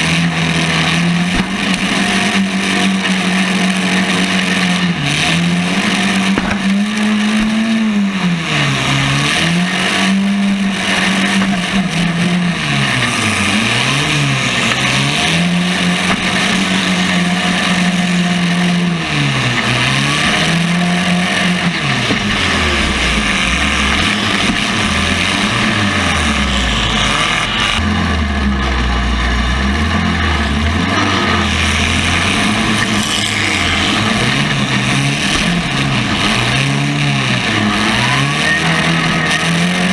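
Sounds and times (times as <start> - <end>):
car engines revving: 0.0 - 39.9
deeper engine note: 0.0 - 39.9.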